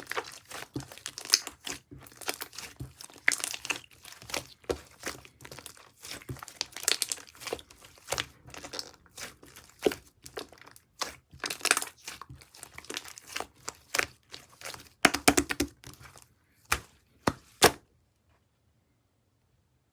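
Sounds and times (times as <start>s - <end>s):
slime squishing: 0.0s - 17.8s.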